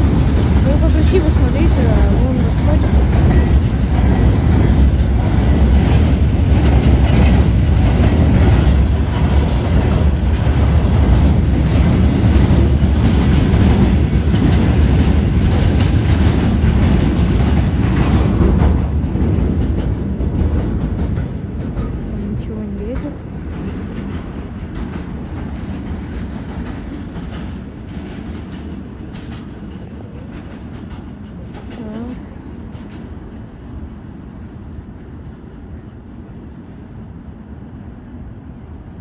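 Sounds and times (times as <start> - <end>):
train wheels clattering over rail joints: 0.0 - 33.8
heavy low train rumble: 0.0 - 39.0.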